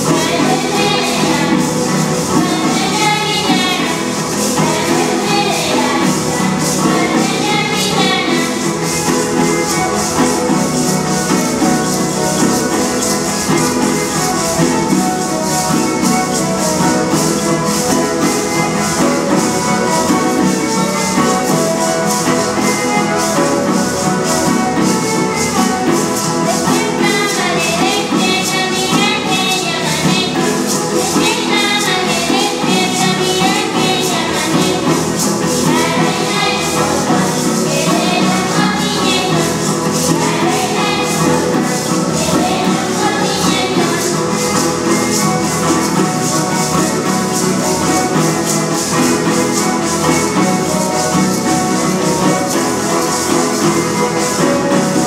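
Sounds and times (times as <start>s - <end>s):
guitar: 0.0s - 55.0s
rattles shaken: 0.0s - 55.0s
violin: 0.0s - 55.0s
voices singing: 0.0s - 55.0s.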